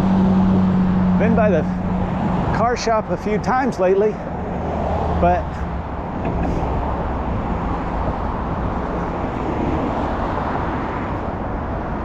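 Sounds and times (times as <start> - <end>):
car and truck engines passing: 0.0 - 12.0.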